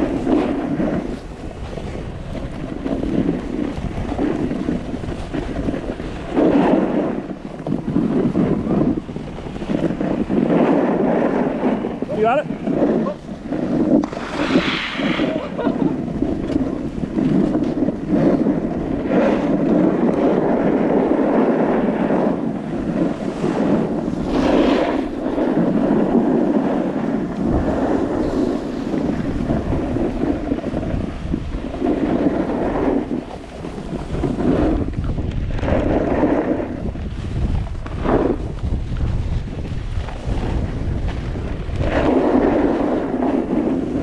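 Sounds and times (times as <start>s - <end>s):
skis scraping on snow: 0.0s - 44.0s
wind on microphone: 0.0s - 44.0s.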